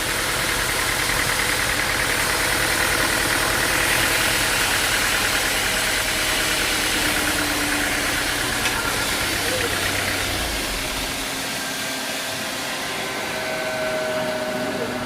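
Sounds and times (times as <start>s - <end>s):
engine running with even pulsing: 0.0s - 15.0s.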